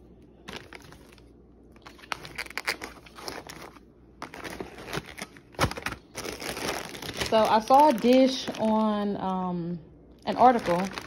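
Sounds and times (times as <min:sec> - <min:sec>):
plastic bags crinkling: 0:00.4 - 0:09.4, 0:10.2 - 0:11.0.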